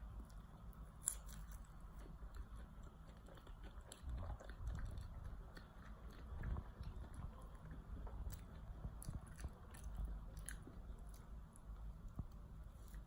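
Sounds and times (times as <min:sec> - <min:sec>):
close chewing of doughnut: 0:00.0 - 0:13.0.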